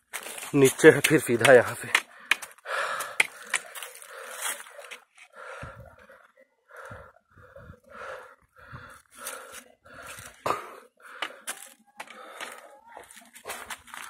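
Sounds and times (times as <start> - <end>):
person breathing heavily: 1.9 - 14.0.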